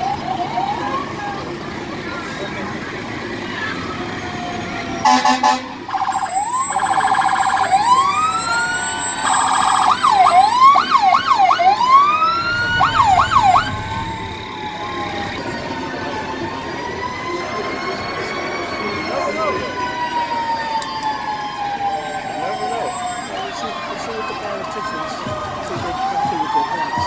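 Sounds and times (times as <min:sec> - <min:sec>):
fire truck siren: 0:00.0 - 0:27.0.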